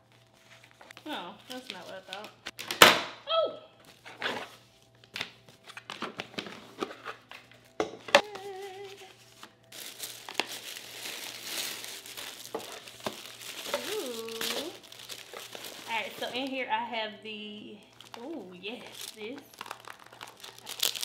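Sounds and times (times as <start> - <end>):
paper and packaging crinkling: 0.0 - 2.7, 3.8 - 16.7, 17.8 - 21.0.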